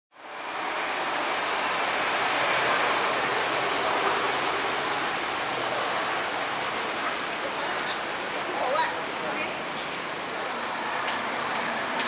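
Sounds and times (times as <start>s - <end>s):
bus station ambience rushing: 0.2s - 12.0s.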